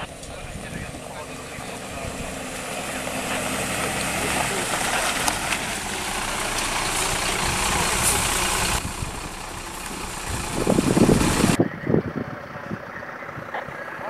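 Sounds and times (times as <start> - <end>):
diesel engine idling: 0.0 - 14.0
low rumbling: 0.0 - 14.0.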